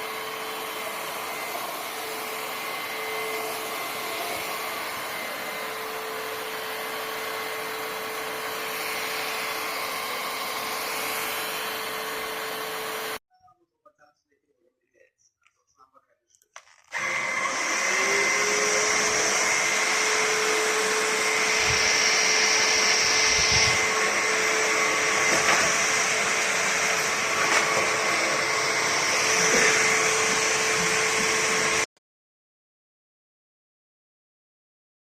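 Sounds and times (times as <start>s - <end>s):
stick vacuum motor whine: 0.0s - 13.2s, 16.9s - 31.9s.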